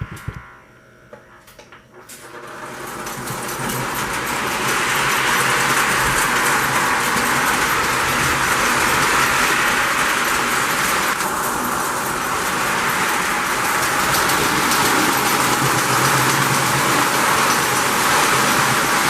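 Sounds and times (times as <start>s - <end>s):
model train motor whir: 2.4s - 19.0s
wheels rumbling on rails: 2.6s - 19.0s.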